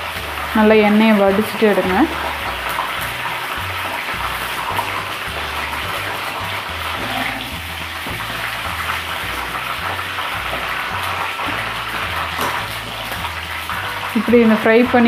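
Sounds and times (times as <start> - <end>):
background music bass line: 0.0 - 15.0
oil sizzling deep-frying: 0.0 - 15.0.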